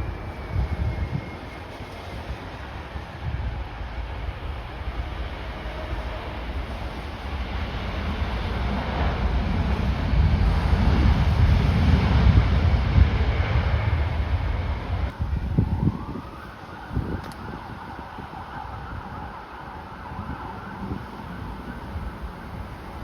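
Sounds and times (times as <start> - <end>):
steady high whine: 0.0 - 18.8
jet airliner engine noise: 0.0 - 23.0
wind buffeting microphone: 0.0 - 23.0.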